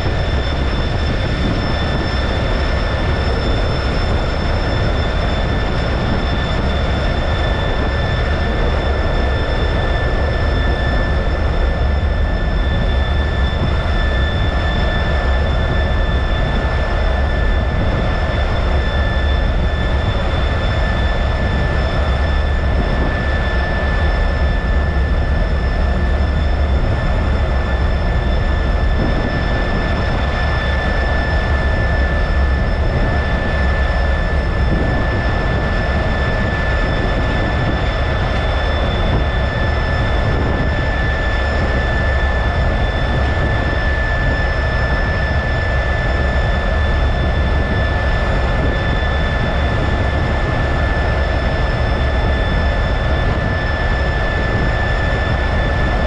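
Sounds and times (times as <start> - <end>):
high jet whine: 0.0 - 56.0
jet engine and airflow rumble: 0.0 - 56.0.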